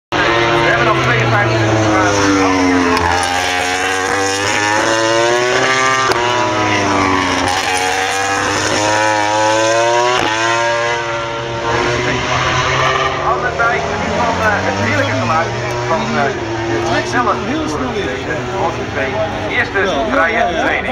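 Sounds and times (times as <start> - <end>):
racing motorcycle engines revving: 0.1 - 20.9.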